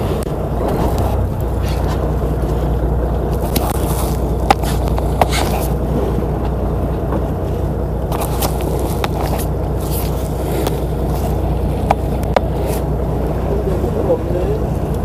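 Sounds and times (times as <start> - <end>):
boat engine droning: 0.0 - 15.0
water noise: 0.0 - 15.0
wind: 0.0 - 15.0.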